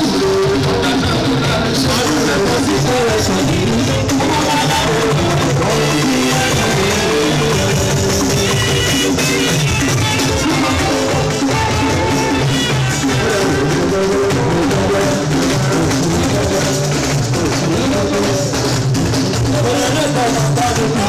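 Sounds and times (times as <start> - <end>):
drums and percussion beat: 0.0 - 21.0
live band music through a pa: 0.0 - 21.0.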